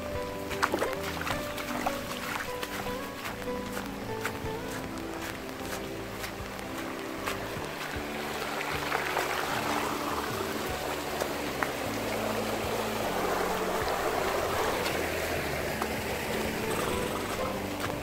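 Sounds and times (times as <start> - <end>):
heavy rain: 0.0 - 18.0
rainwater running down a channel: 0.0 - 18.0.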